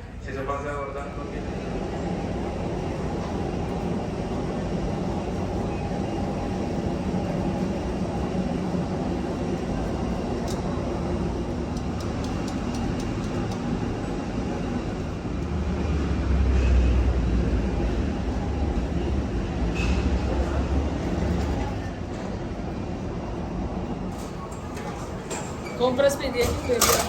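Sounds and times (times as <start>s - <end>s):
airliner machinery hum: 0.0s - 27.0s.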